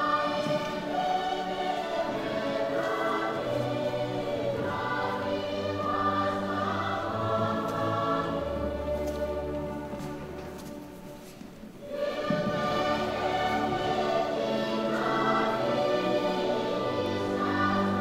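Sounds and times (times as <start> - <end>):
choir singing slow chords: 0.0 - 18.0.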